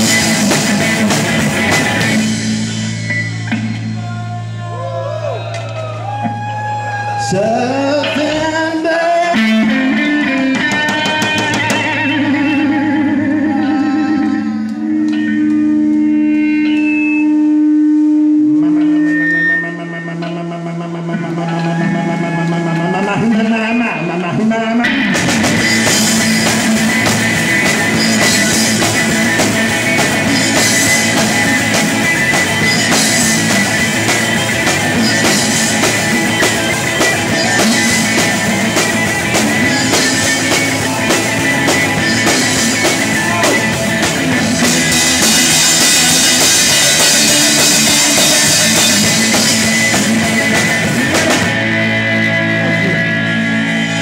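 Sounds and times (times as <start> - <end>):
drum kit close up: 0.0 - 23.8, 24.8 - 54.0
live rock band playing: 0.0 - 54.0.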